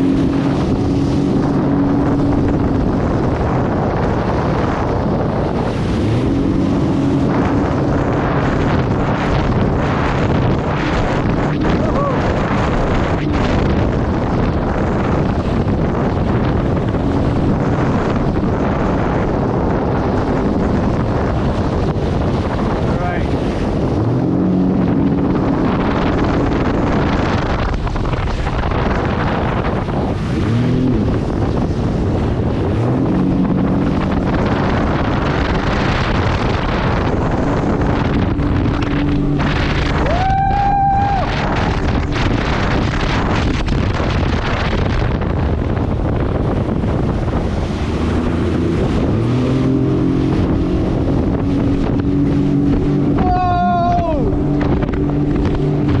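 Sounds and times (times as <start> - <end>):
motorboat engine running: 0.0 - 56.0
rushing water: 0.0 - 56.0
wind buffeting on microphone: 0.0 - 56.0.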